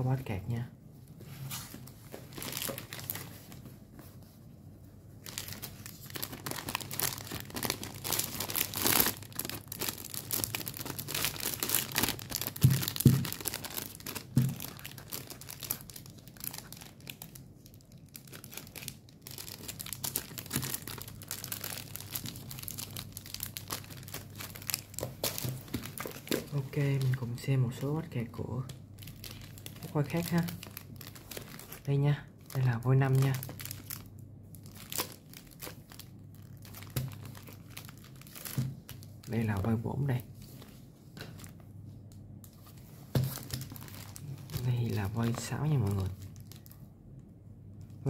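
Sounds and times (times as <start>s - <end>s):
plastic covers crinkling: 1.4s - 4.4s, 5.1s - 41.7s, 42.4s - 46.9s.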